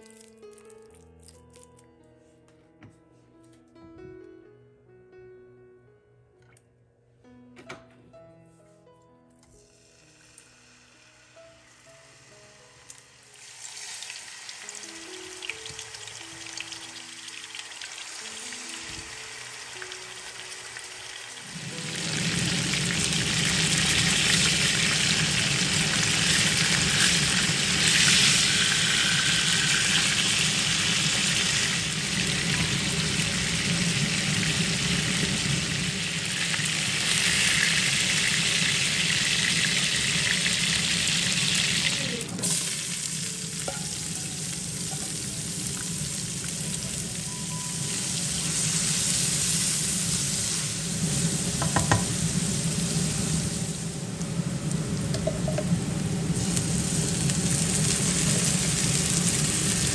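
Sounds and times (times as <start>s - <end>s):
onions sizzling: 9.6s - 59.9s
fish sizzling in hot oil: 9.8s - 55.2s, 55.8s - 59.9s.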